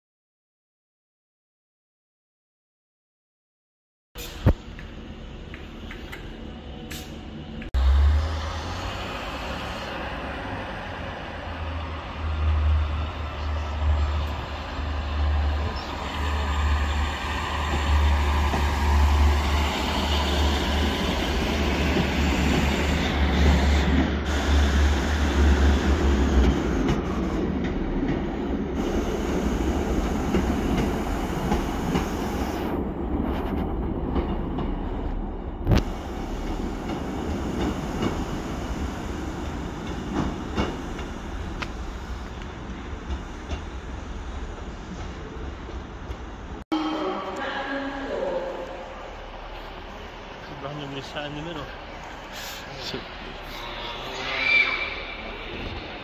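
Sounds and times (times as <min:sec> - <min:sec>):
train rumbling past: 0:04.2 - 0:56.0.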